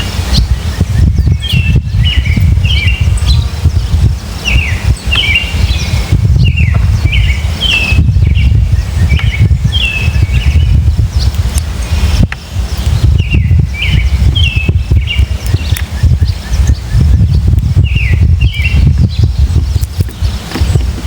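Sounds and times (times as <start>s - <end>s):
birds chirping: 0.0s - 21.0s
loud low rumble: 0.0s - 21.0s.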